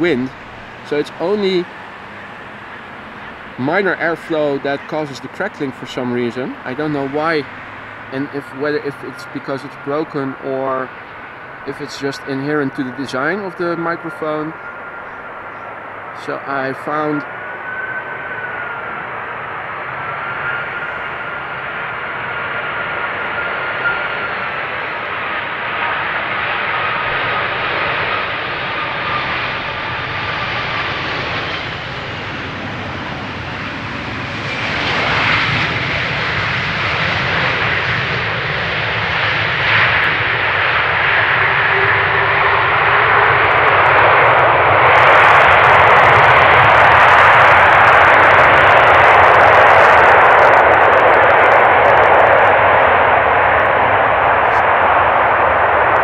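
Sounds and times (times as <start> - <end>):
jet engines roaring: 0.0 - 56.0
jet touching down: 0.0 - 56.0
thin jet whine: 0.0 - 56.0.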